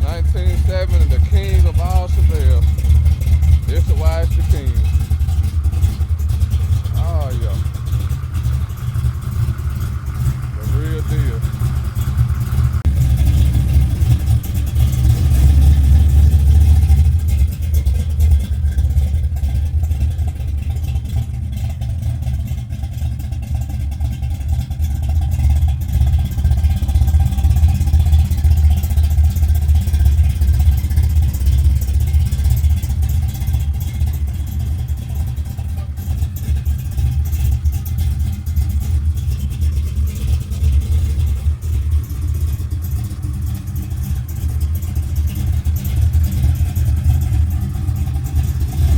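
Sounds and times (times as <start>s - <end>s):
car engine running deeply: 0.0s - 48.9s.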